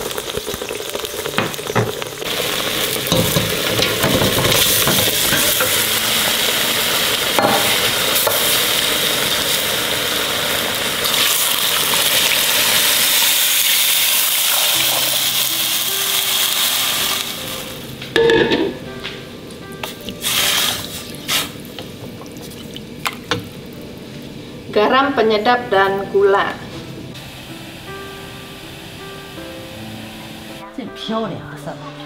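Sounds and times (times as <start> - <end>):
food sizzling in oil: 0.0 - 18.3, 19.8 - 24.3, 27.2 - 30.6.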